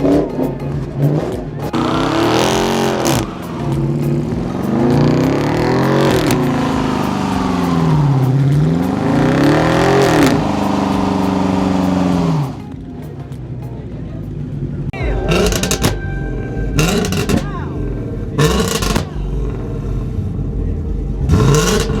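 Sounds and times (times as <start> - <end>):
car engine revving hard: 0.0 - 12.7, 15.3 - 22.0.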